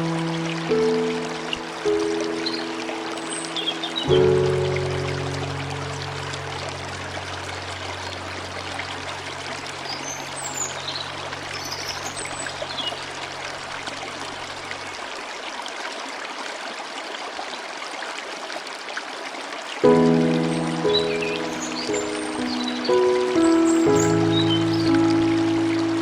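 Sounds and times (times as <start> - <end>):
flowing stream water: 0.0 - 26.0.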